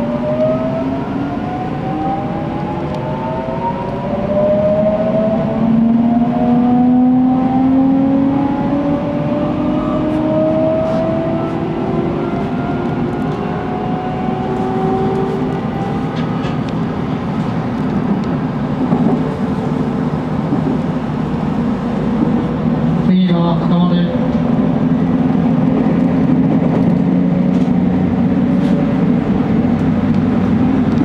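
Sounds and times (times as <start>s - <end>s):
electric train inverter whine: 0.0s - 31.0s
train rumble: 0.0s - 31.0s.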